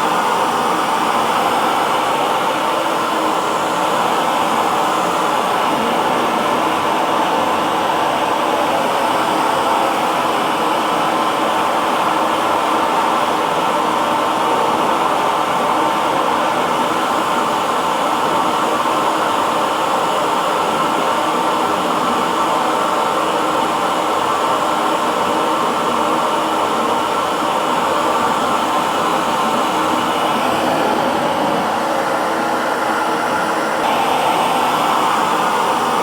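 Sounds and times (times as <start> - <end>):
hair dryer running: 0.0 - 36.0.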